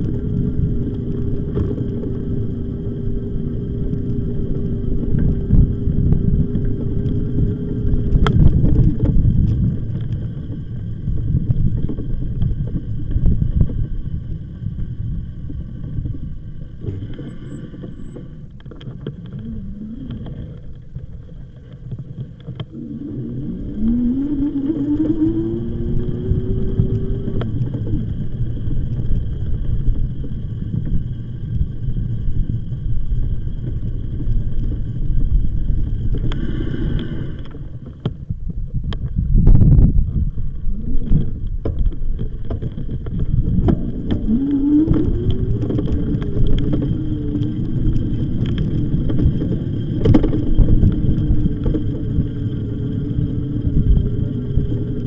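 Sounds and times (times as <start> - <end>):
electric motor whine: 0.0 - 38.2, 39.7 - 55.0
wind rumble on microphone: 0.0 - 55.0.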